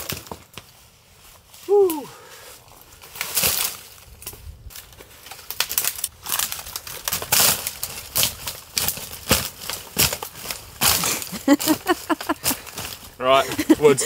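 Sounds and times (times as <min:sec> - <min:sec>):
dry branches snapping and crunching: 0:00.0 - 0:00.7, 0:02.7 - 0:13.8.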